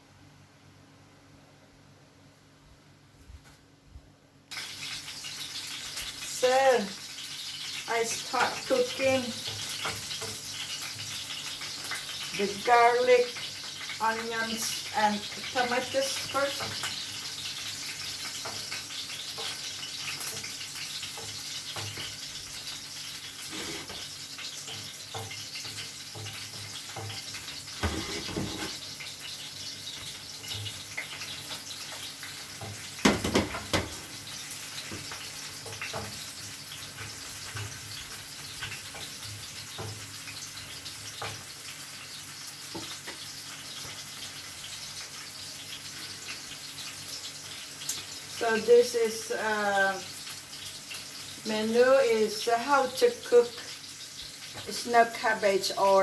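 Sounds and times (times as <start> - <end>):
food sizzling in oil: 4.5 - 56.0.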